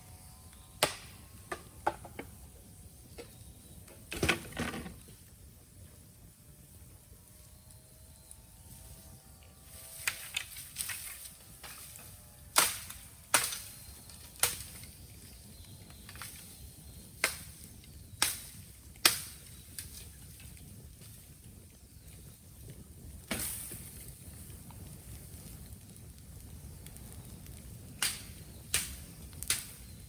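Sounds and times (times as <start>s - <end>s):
bamboo popping in a bonfire: 0.1s - 30.0s.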